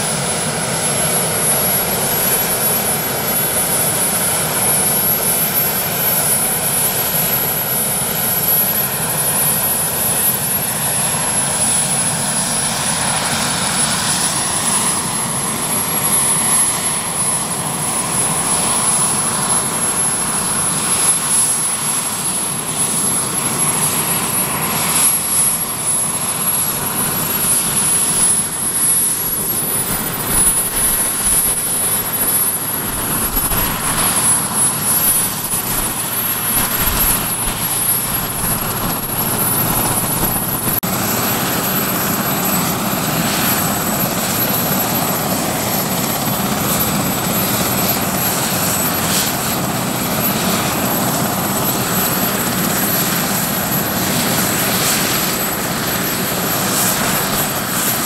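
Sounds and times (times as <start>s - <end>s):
helicopter rotor and engine noise: 0.0s - 58.0s.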